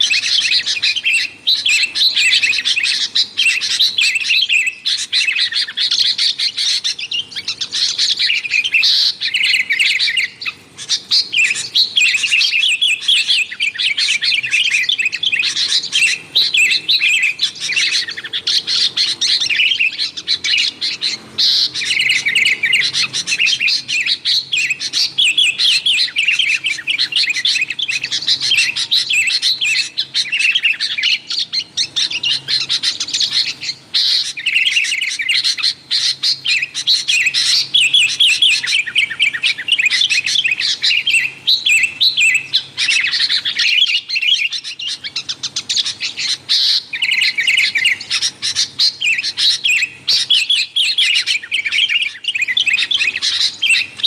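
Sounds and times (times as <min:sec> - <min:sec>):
bulbuls chattering: 0:00.0 - 0:54.0.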